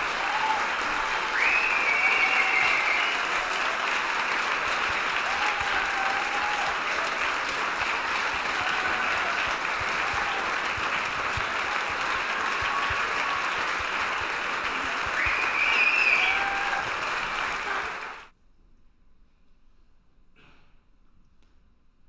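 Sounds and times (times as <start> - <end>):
audience applauding: 0.0 - 18.3
voices cheering: 0.0 - 18.3.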